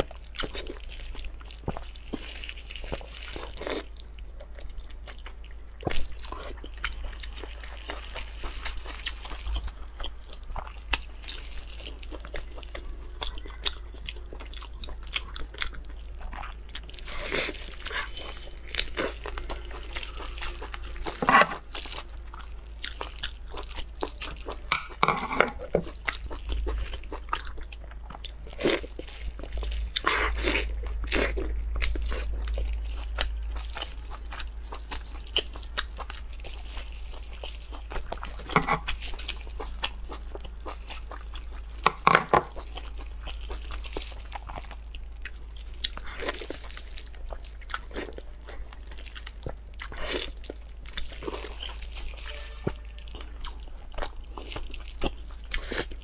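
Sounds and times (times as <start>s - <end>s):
steady low hum: 0.0s - 56.0s
wet biting and chewing: 4.5s - 56.0s.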